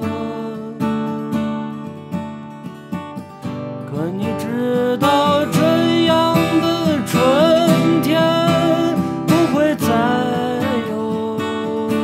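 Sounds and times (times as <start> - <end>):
man singing folk melody: 0.0 - 2.0, 3.6 - 12.0
strummed acoustic guitar: 0.0 - 12.0.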